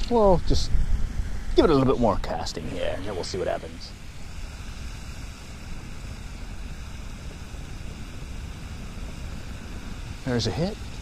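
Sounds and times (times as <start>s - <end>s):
outdoor hiss: 0.0s - 11.0s
wind buffeting microphone: 0.0s - 11.0s.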